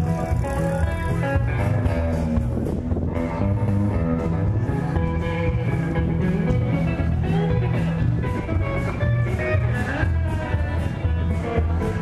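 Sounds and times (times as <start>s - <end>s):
guitar rock music: 0.0s - 12.0s.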